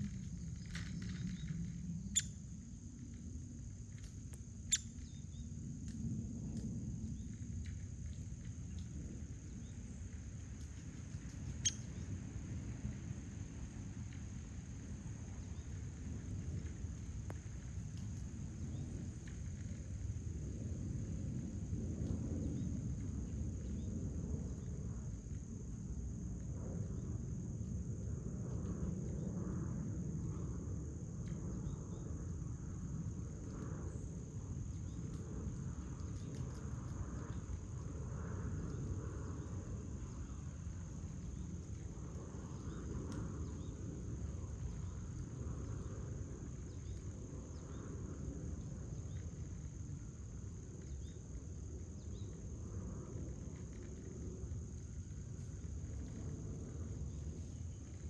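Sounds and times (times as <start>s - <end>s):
crickets trilling: 0.0s - 58.0s
low outdoor rumble: 0.0s - 58.0s.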